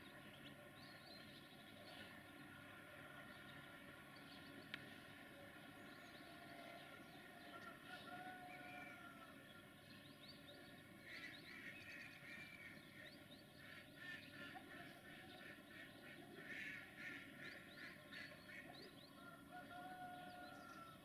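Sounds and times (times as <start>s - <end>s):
small bird calls: 0.0s - 21.0s.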